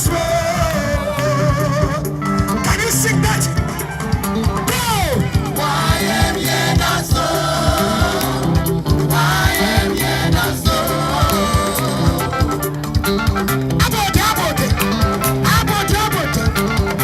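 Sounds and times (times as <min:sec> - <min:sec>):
band with steady beat: 0:00.0 - 0:17.0
choir singing gospel music: 0:00.0 - 0:17.0.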